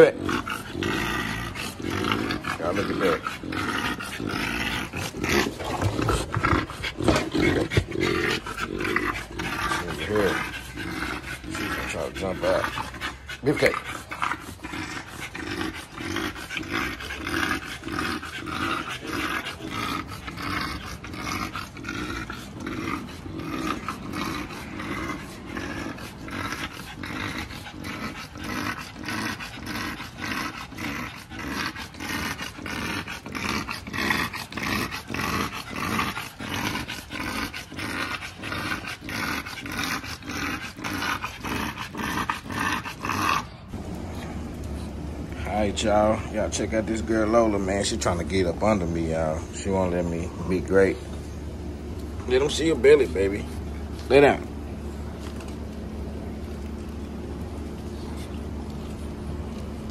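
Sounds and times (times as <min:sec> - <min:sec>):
dogs panting heavily: 0:00.0 - 0:55.2.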